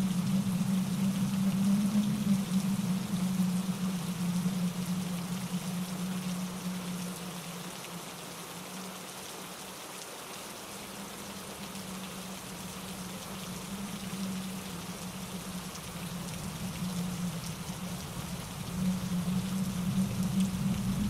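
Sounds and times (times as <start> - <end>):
low drone: 0.0 - 8.5, 10.9 - 21.0
heavy rain on trees and rocks: 0.0 - 21.0.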